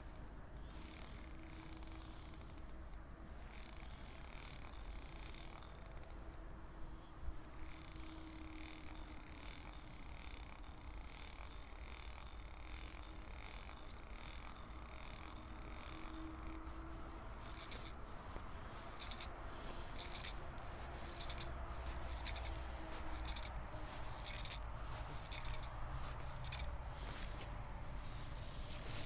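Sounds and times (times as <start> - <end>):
scratchy rubbing and clicking: 0.7 - 29.0.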